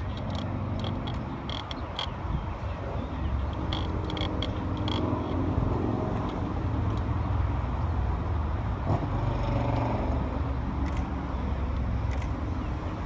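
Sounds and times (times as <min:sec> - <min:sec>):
motor engine rumbling: 0:00.0 - 0:13.0.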